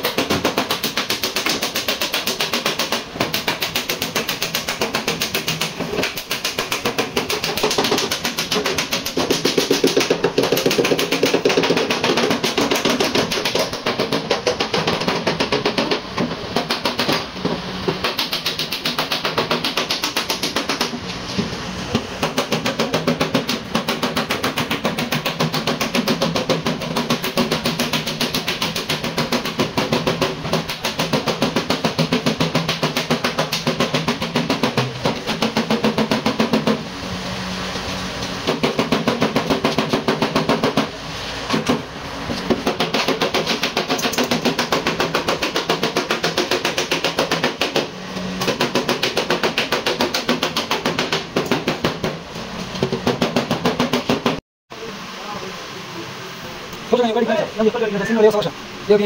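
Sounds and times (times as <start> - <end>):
hammer tapping sheet metal: 0.0 - 21.0, 21.9 - 36.8, 38.4 - 41.8, 42.4 - 52.2, 52.8 - 54.4.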